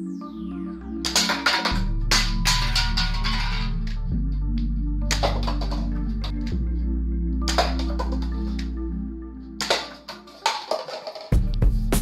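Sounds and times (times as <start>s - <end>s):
background music of sustained chords: 0.0s - 12.0s.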